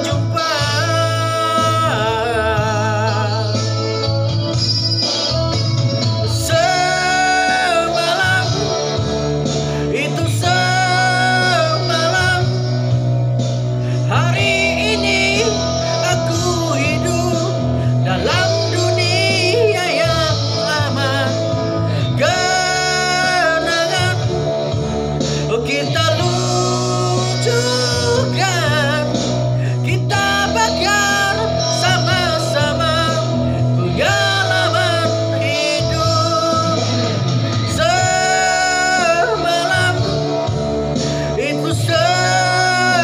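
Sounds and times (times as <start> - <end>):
guitar and bass backing: 0.0 - 43.0
person singing with vibrato: 0.0 - 43.0.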